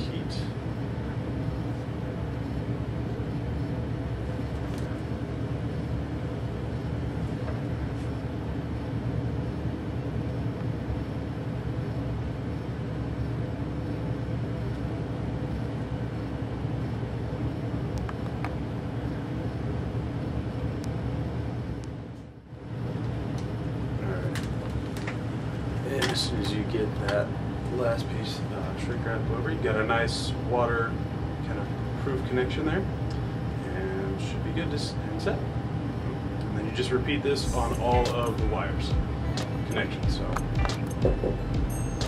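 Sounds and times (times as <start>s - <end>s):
heat gun fan blowing: 0.0s - 42.0s.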